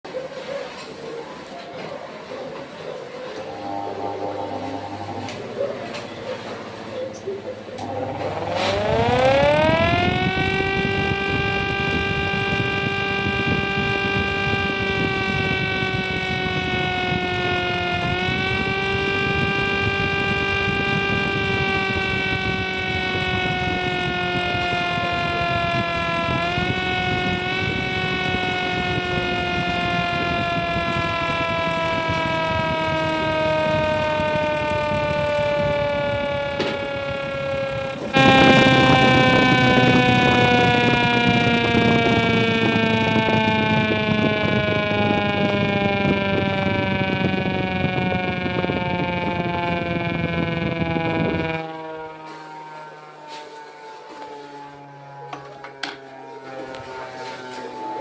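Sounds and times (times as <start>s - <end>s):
motor-driven air raid siren: 2.8s - 58.0s.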